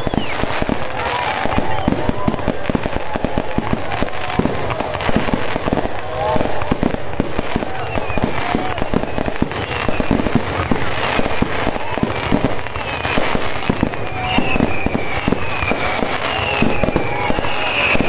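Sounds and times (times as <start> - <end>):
firecrackers banging and crackling: 0.0 - 18.0
fireworks whistling: 0.0 - 18.0.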